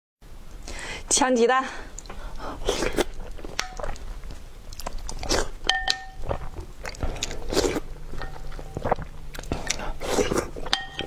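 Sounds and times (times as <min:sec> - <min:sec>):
person chewing crunchy food: 0:01.9 - 0:11.0.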